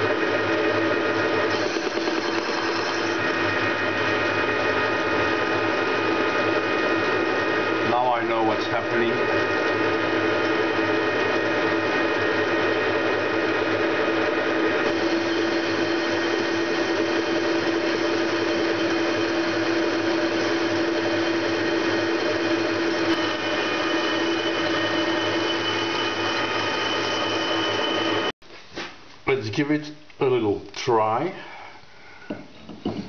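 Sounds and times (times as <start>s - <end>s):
metal lathe cutting hum: 0.0s - 28.4s.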